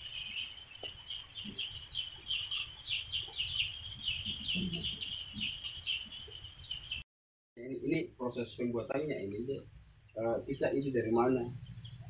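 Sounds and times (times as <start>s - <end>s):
birds chirping: 0.0s - 7.0s, 7.6s - 12.0s.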